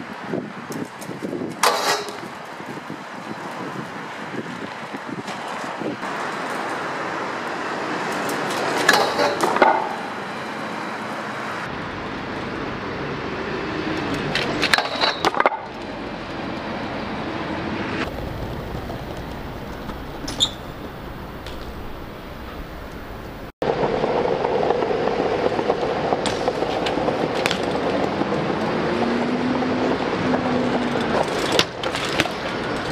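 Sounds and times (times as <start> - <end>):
bike tyres rolling on pavement: 0.0 - 32.9.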